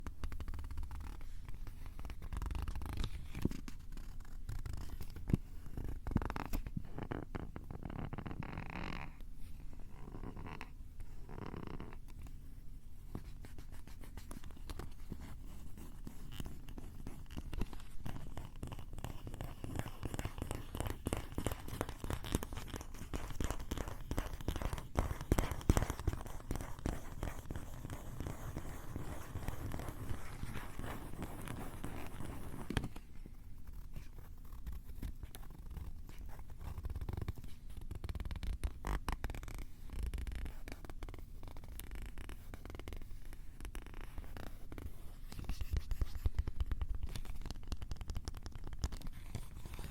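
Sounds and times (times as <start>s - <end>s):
scratching on microphone: 0.0s - 12.3s, 13.0s - 49.9s.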